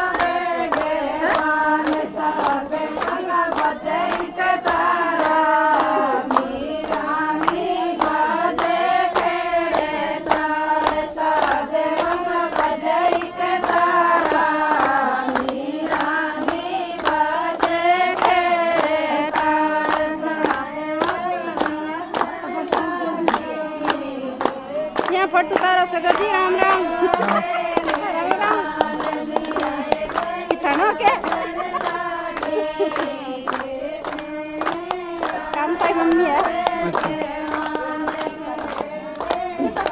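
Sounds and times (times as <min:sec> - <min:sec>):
rhythmic hand clapping: 0:00.0 - 0:39.9
women singing a folk song: 0:00.0 - 0:39.9.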